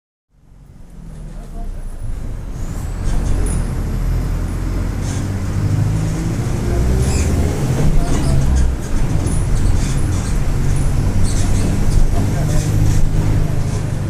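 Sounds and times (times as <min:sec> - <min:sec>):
bus diesel engine pulling away: 0:00.4 - 0:14.0.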